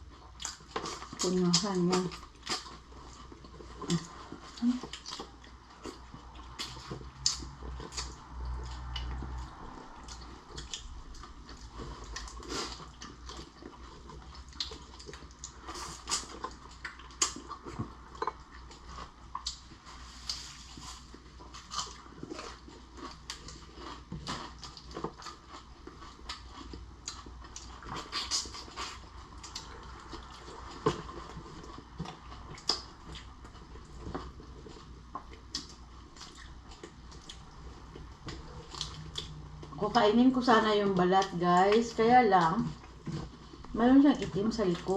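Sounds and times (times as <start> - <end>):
person chewing and biting: 0.0 - 39.8.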